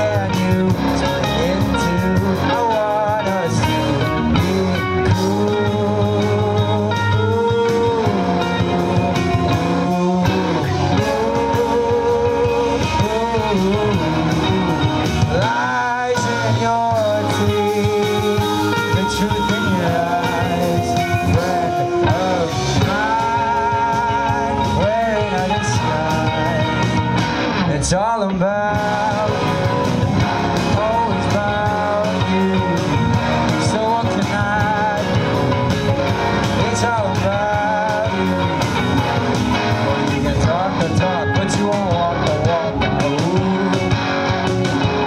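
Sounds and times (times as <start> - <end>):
bass guitar: 0.0 - 45.0
drums: 0.0 - 45.0
electric guitars: 0.0 - 45.0.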